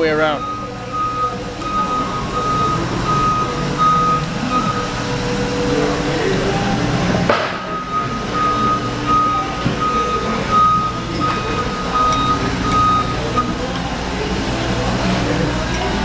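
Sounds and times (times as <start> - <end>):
reversing alarm beeping: 0.0 - 6.8, 7.5 - 15.5
low workshop hum: 0.0 - 16.0.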